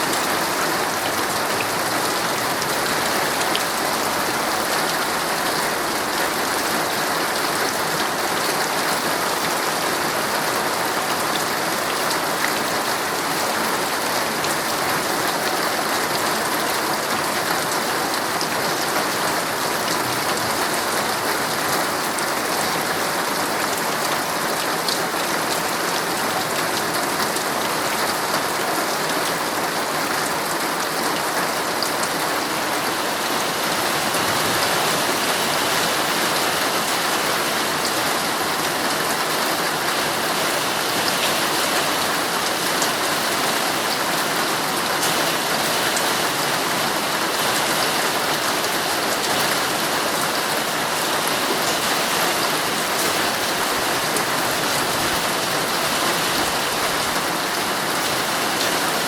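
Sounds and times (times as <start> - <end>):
rain drumming on tent fabric: 0.0 - 59.0.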